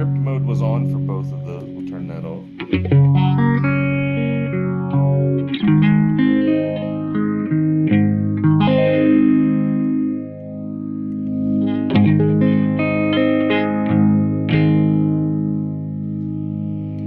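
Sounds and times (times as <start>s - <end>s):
electric guitar chords with phaser: 0.0s - 17.0s.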